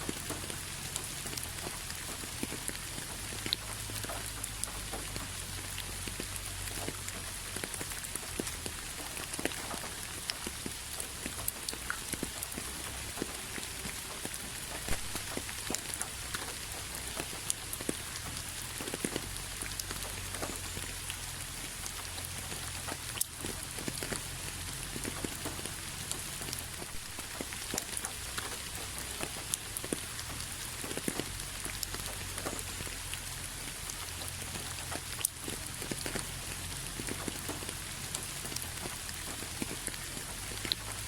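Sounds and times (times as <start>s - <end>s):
rain hiss: 0.0s - 41.0s
raindrops tapping on hard surface: 0.0s - 41.0s.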